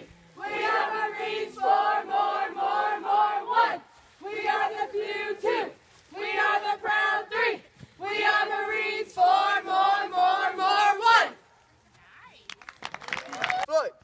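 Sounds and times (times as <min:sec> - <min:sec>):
group chanting in unison: 0:00.0 - 0:11.4.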